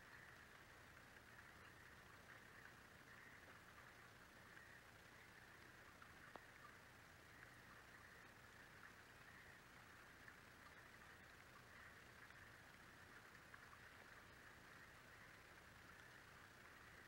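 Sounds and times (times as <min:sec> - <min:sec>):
faint steady hiss: 0:00.0 - 0:17.0
tiny ticks: 0:00.0 - 0:17.0.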